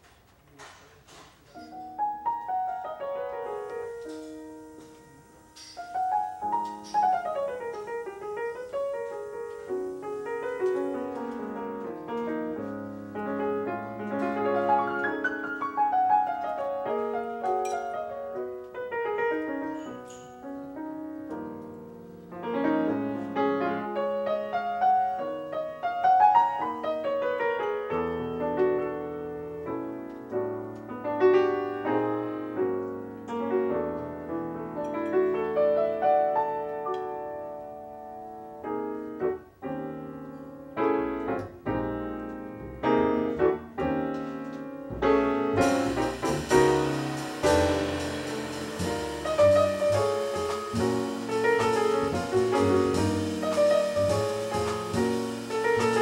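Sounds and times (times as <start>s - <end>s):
grand piano playing: 1.5s - 56.0s.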